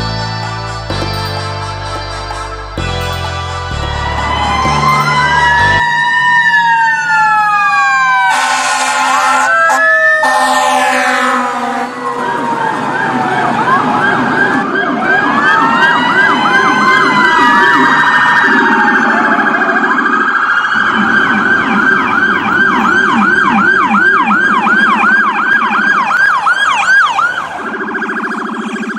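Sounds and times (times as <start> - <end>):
electronic siren wailing and yelping: 1.7 - 28.9.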